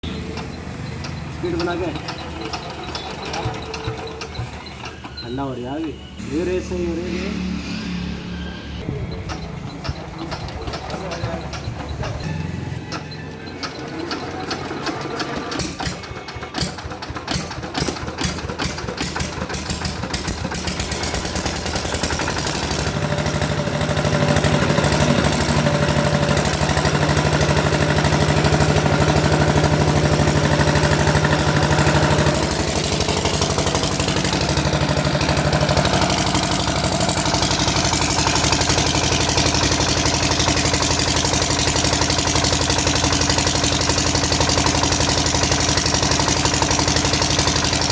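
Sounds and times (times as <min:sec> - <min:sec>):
generator diesel engine running: 0:00.0 - 0:07.3, 0:08.2 - 0:47.9.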